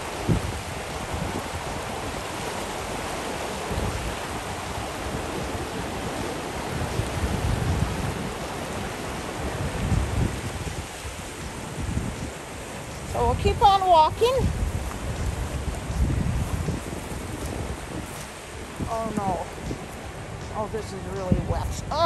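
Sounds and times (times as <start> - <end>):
river rapids rushing over rocks: 0.0 - 22.0
wind rumble on microphone: 0.0 - 22.0.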